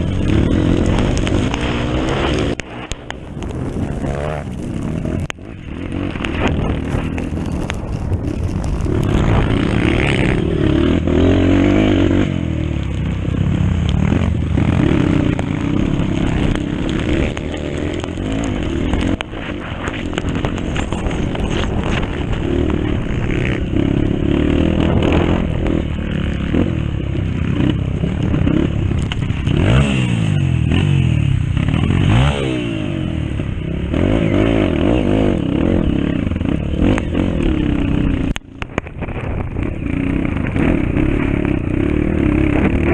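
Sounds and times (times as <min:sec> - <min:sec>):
dirt bike engine revving: 0:00.0 - 0:38.4, 0:39.2 - 0:42.9.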